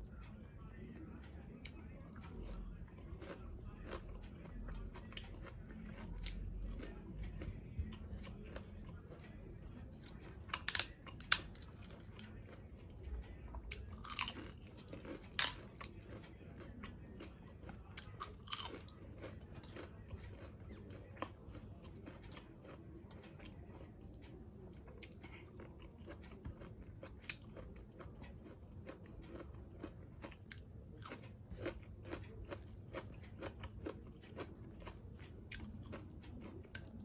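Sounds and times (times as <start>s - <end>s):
crunches of crisp food: 0.0s - 37.0s.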